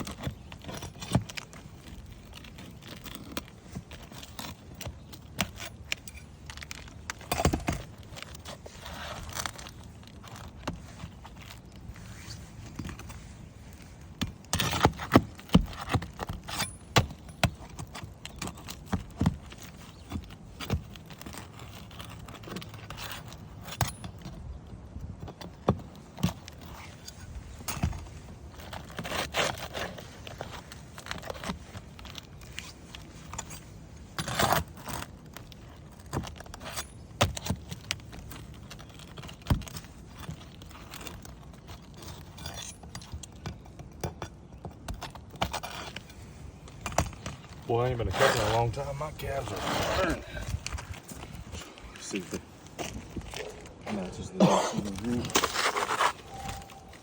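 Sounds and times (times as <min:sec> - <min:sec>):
tools scraping and tapping roof shingles: 0:00.0 - 0:57.0.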